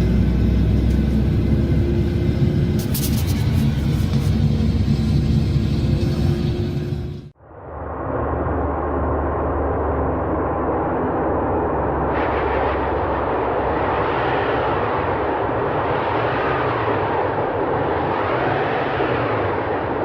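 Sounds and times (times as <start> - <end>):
loud rumbling noise: 0.0 - 20.0.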